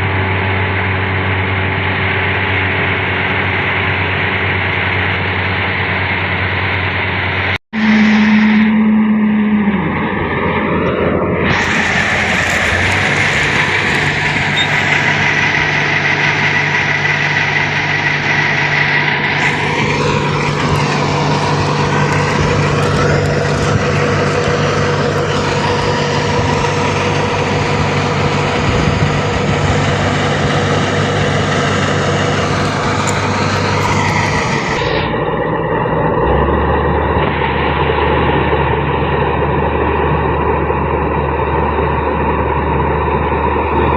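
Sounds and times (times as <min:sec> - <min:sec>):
combine harvester droning: 0:00.0 - 0:43.9.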